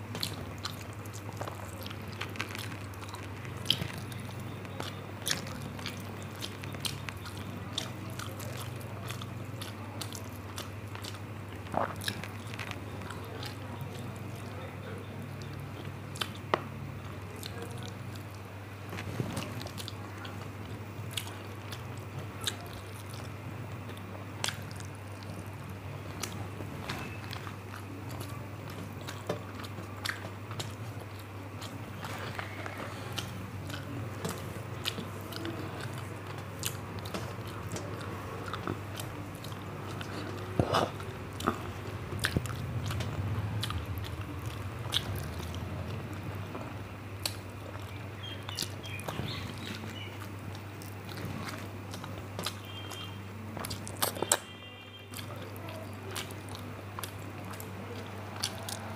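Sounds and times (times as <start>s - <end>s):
steady low hum: 0.0s - 58.9s
chewing and wet mouth smacks: 0.1s - 54.5s, 55.1s - 58.9s.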